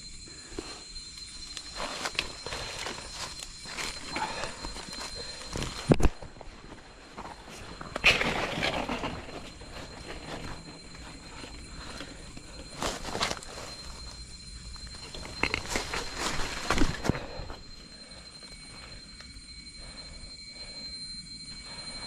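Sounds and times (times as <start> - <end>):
steady high tone: 0.0 - 22.0.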